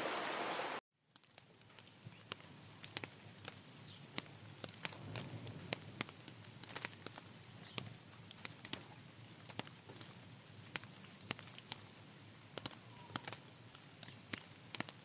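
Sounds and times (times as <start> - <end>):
raindrops ticking on hard surface: 0.0 - 15.0.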